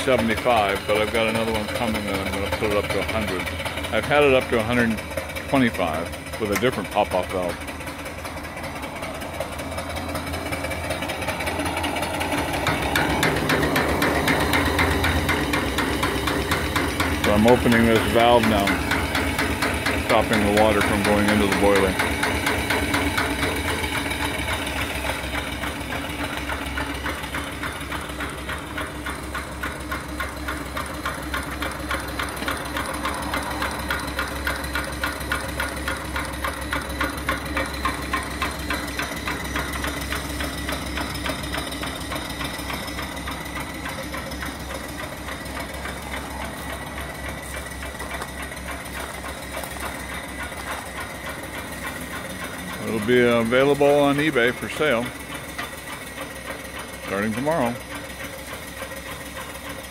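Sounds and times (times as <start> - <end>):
steam engine rapid mechanical beat: 0.0 - 59.9.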